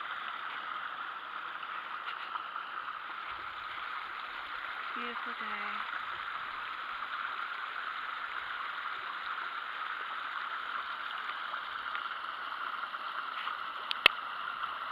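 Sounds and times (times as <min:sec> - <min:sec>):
stream trickling over rocks: 0:00.0 - 0:14.9.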